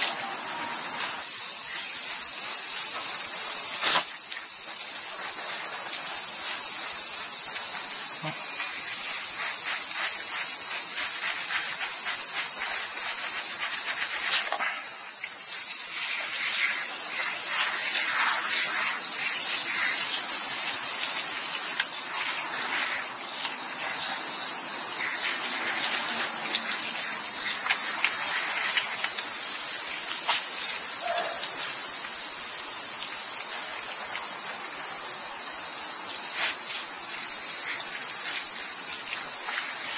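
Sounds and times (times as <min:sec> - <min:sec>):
high-pitched insect chorus: 0:00.0 - 0:39.9
shower water splashing on fur: 0:00.0 - 0:39.9.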